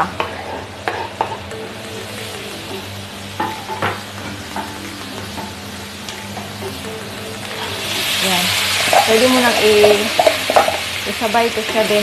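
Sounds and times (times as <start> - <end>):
carrots sizzling in butter: 0.0 - 12.0.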